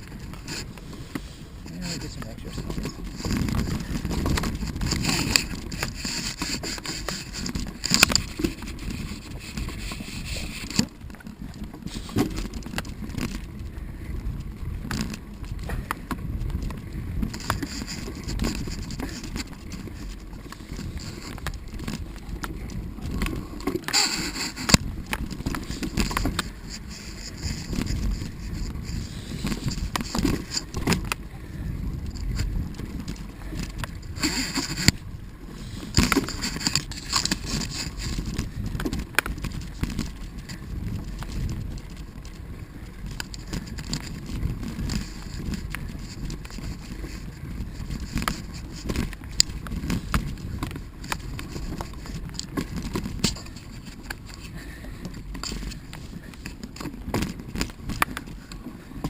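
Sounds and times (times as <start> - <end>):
bike rattles and clicks: 0.0 - 59.0
bike rolling on dirt: 0.0 - 59.0.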